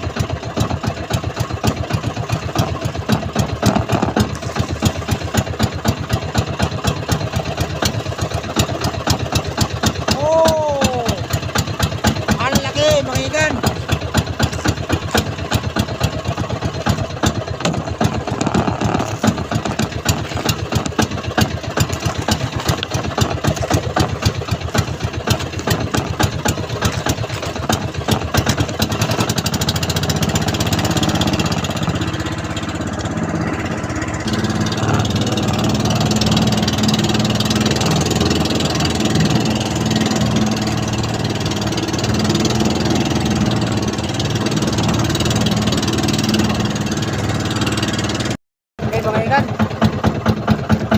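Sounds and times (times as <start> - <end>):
boat engine knocking: 0.0 - 50.9.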